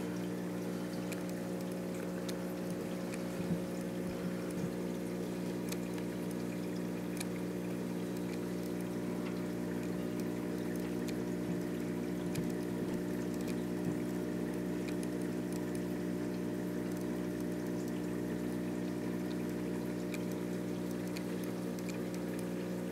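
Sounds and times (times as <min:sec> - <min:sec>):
aquarium pump humming: 0:00.0 - 0:22.9
water trickling and bubbling: 0:00.0 - 0:22.9
faint clicks: 0:00.9 - 0:05.0, 0:05.6 - 0:07.4, 0:08.0 - 0:16.0, 0:16.8 - 0:18.0, 0:18.8 - 0:22.6.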